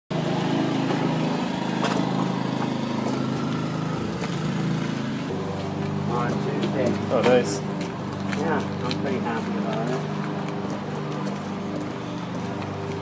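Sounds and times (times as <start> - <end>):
engine running: 0.1 - 13.0.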